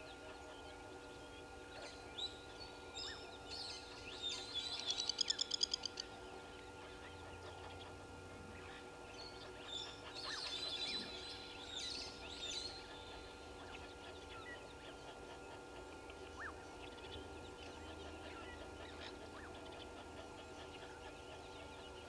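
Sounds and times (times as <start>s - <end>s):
faint steady hum: 0.0s - 22.0s
birds chattering calls: 1.4s - 22.0s.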